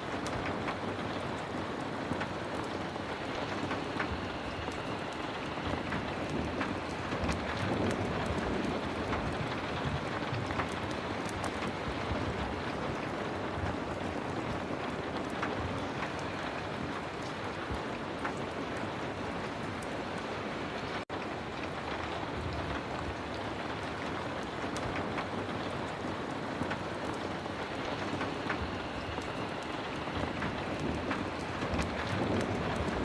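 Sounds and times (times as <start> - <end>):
heavy rain falling: 0.0 - 33.0
sharp crackles: 0.0 - 33.0.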